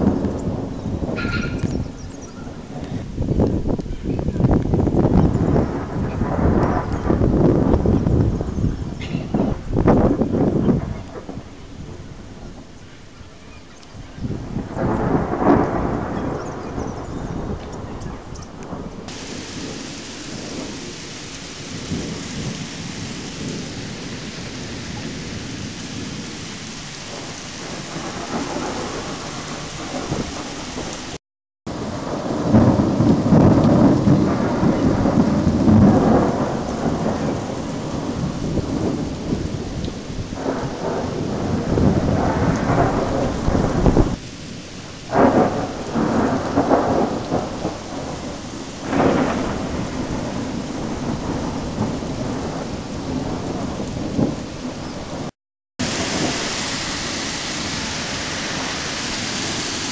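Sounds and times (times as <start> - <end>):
steady rain: 0.0 - 59.9
thunder rumbling: 0.0 - 59.9.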